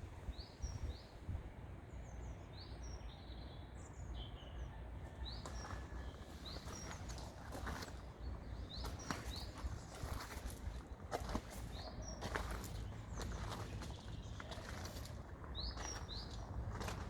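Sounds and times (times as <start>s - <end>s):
small birds chirping: 1.9s - 17.0s.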